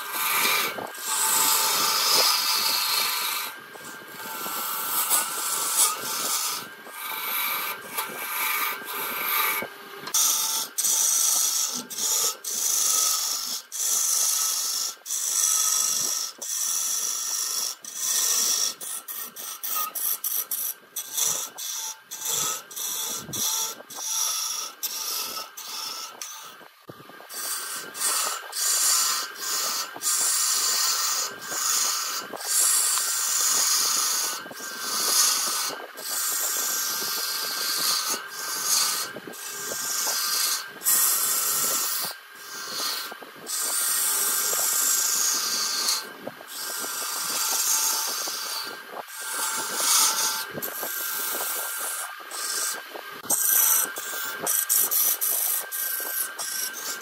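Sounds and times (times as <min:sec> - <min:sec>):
lathe high whine: 0:00.0 - 0:57.0
lathe tool scraping wood: 0:00.0 - 0:57.0.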